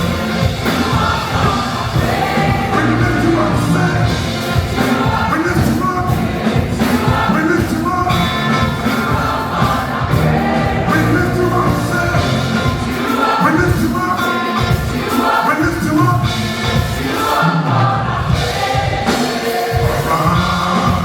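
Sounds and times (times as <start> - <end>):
choir singing: 0.0 - 21.0
gospel band playing: 0.0 - 21.0.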